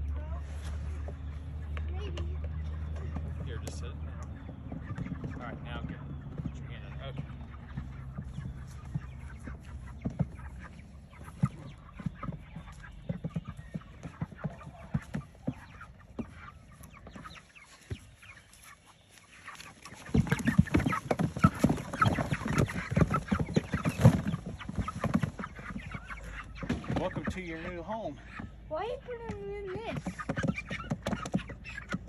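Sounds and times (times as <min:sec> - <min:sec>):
chicks calling: 0:00.0 - 0:32.0.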